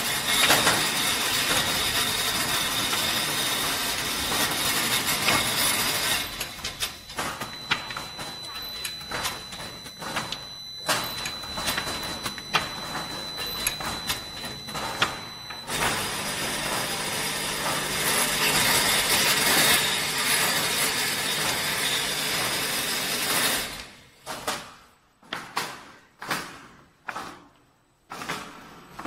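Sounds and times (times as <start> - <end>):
machine clicks and knocks: 0.0 - 21.9, 23.4 - 29.0
faint high machine whine: 0.0 - 24.1.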